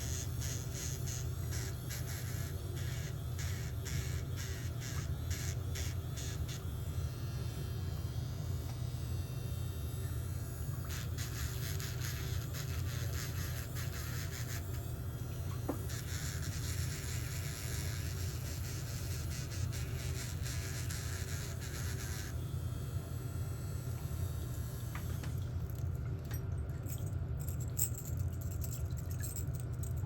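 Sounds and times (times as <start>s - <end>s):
electric nail drill buzzing: 0.0s - 25.4s.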